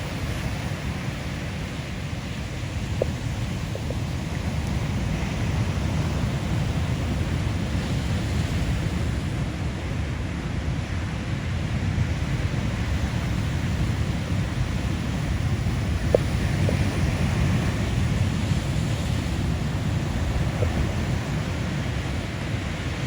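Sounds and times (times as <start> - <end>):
heavy ocean surf roaring: 0.0 - 23.0
wind buffeting microphone: 0.0 - 23.0.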